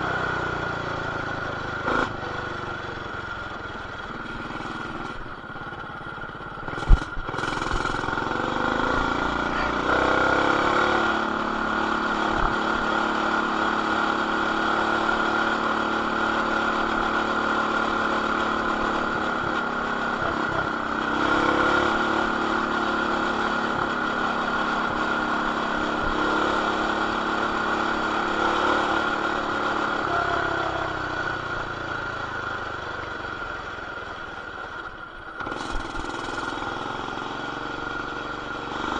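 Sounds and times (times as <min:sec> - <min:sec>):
mini bike engine revving: 0:00.0 - 0:38.9.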